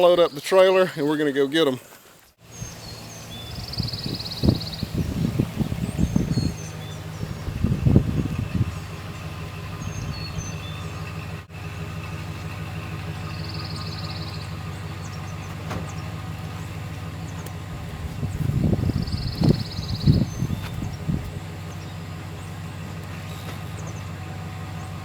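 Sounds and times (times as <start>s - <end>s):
vehicle engine running: 2.4s - 25.0s.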